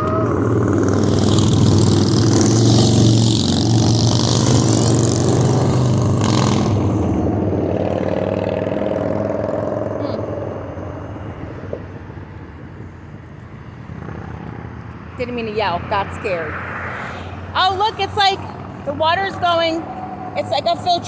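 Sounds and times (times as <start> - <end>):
road noise hiss: 0.0 - 21.0
vehicle engine driving past: 0.0 - 21.0.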